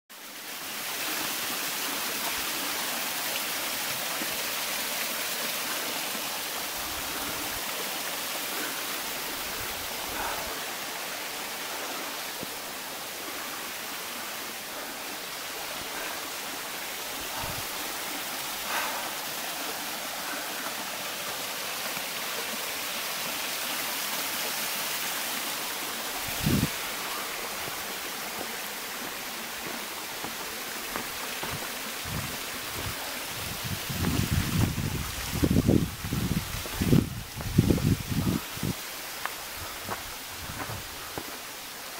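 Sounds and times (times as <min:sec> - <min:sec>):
stream rushing over rocks: 0:00.1 - 0:41.9.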